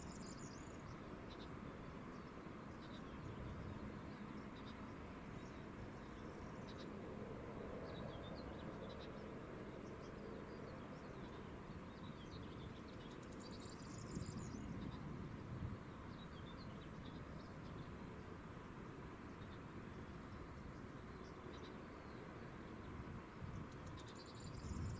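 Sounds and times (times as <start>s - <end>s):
small birds chirping: 0.0s - 7.0s, 7.6s - 24.9s.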